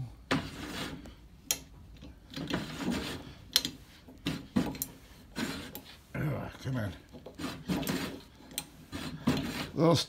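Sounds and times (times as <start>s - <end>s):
mechanism scraping: 0.3s - 1.2s, 2.1s - 10.0s.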